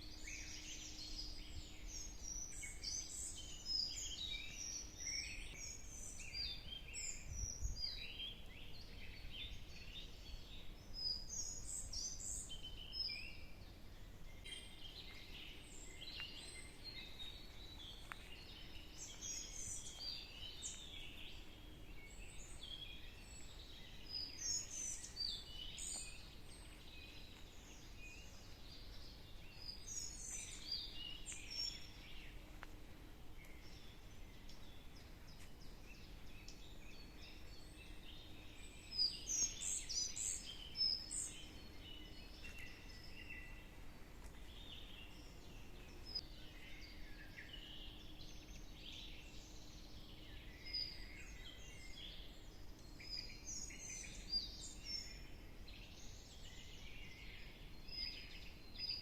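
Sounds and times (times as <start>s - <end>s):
faint low rumble: 0.0s - 58.4s
songbirds singing and chirping: 0.0s - 59.0s.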